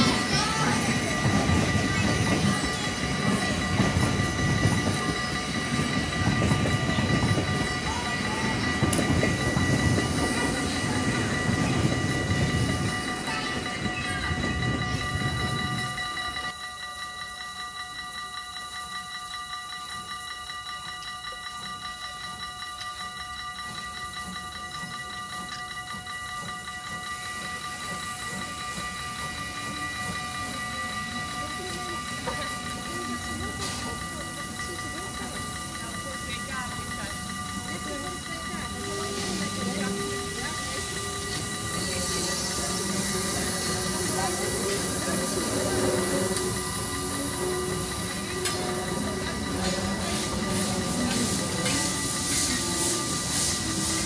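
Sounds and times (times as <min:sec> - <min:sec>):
level crossing bell ringing: 0:00.0 - 0:54.0
thin steady high tone: 0:00.0 - 0:54.0
train wheels rumbling on rails: 0:00.0 - 0:54.0.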